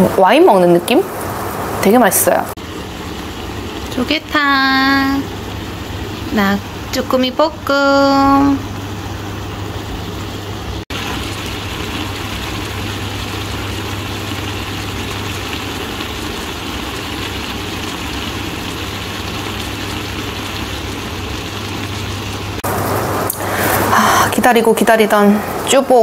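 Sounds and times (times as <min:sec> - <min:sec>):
stir-fry sizzling in a pan: 0:00.0 - 0:26.0.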